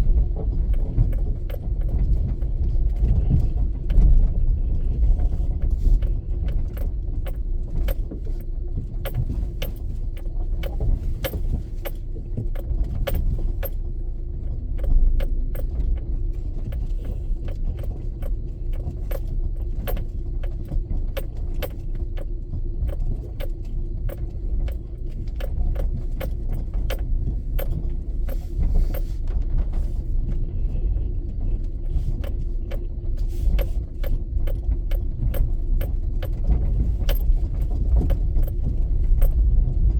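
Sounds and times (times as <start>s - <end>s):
sharp ticks and rattles: 0.0s - 30.6s, 31.2s - 39.9s
moving car rumble: 0.0s - 39.9s.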